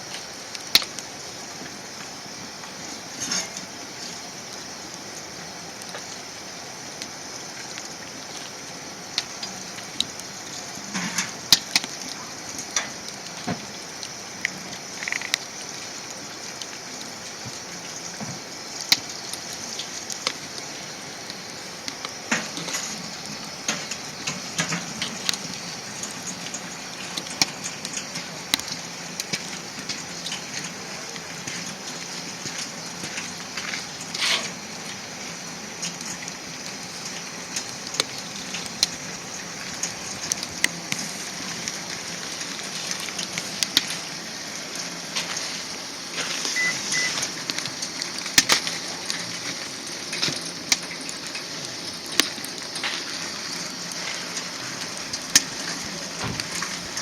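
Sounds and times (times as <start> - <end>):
wood fire hissing and crackling: 0.0 - 57.0.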